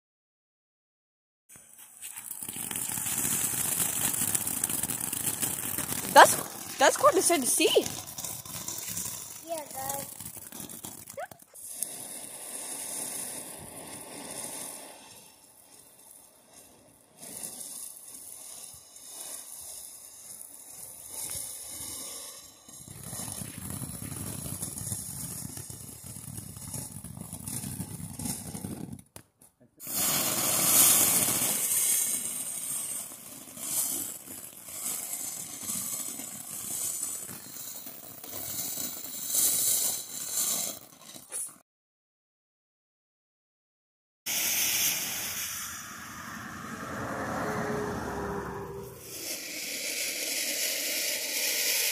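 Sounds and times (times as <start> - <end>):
fireworks fountain hissing: 1.5 - 41.6, 44.3 - 47.9, 48.7 - 51.9.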